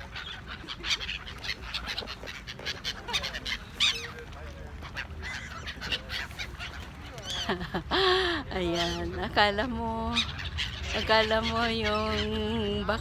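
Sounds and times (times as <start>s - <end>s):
waterbirds calling: 0.0s - 13.0s.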